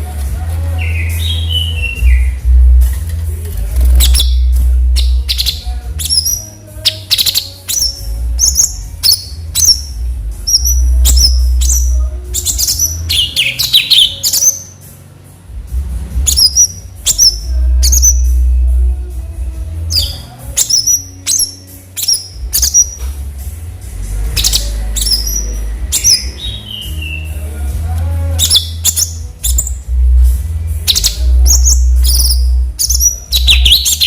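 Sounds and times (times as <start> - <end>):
songbird chirping and whistling: 0.6 - 2.8, 3.7 - 14.8, 16.2 - 18.7, 19.9 - 23.1, 24.2 - 27.6, 28.2 - 30.0, 30.6 - 34.0.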